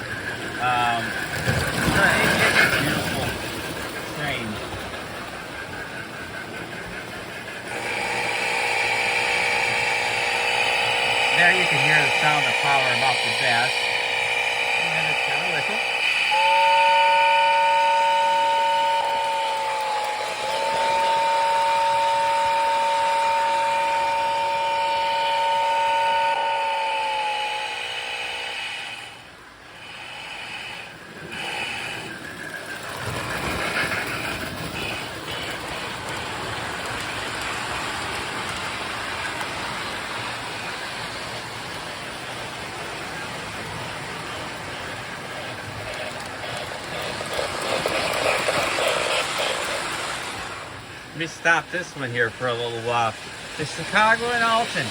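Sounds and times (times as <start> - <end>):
toy train steam whistle: 0.0 - 38.8, 39.7 - 54.9
steady hissing of model train: 0.0 - 54.9.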